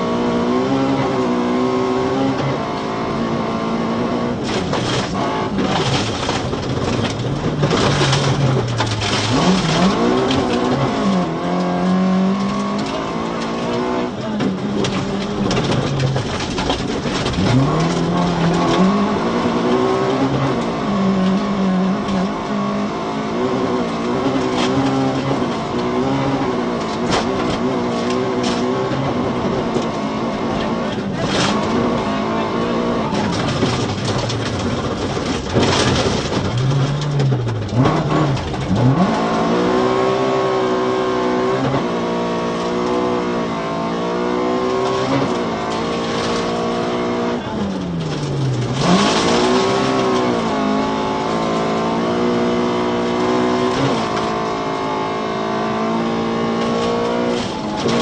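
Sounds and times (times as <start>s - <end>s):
car engine revving: 0.0s - 58.0s
car knocking over gravel road: 4.4s - 43.7s, 44.4s - 55.0s, 55.6s - 58.0s.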